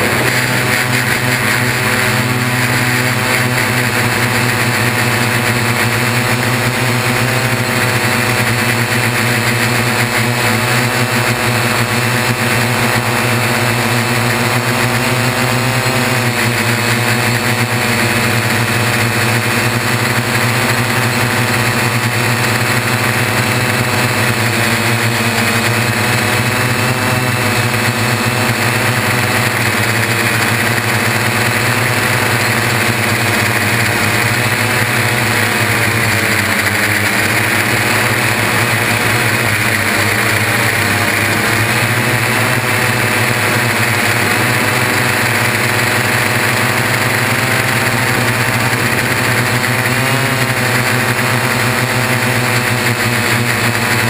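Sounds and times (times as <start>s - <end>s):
multirotor motors buzzing: 0.0s - 54.0s.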